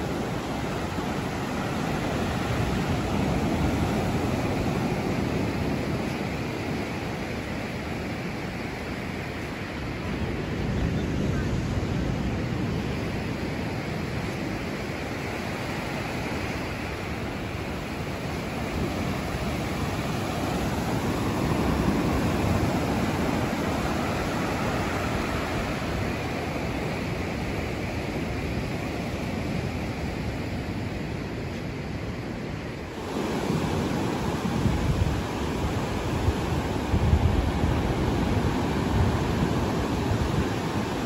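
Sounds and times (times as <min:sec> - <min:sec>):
waves washing on sandy beach: 0:00.0 - 0:41.0
wind rumble on microphone: 0:00.0 - 0:41.0.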